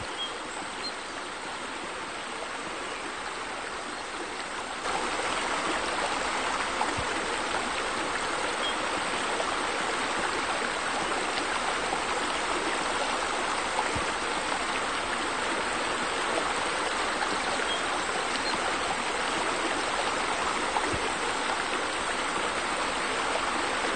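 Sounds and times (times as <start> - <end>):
running water: 0.0 - 23.9.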